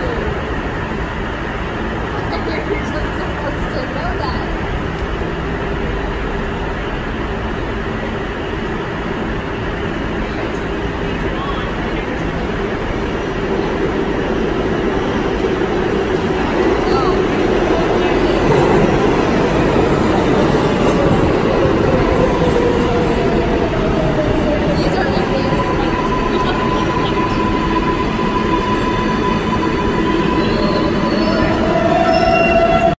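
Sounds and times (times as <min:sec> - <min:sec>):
subway train rumbling: 0:00.0 - 0:33.0.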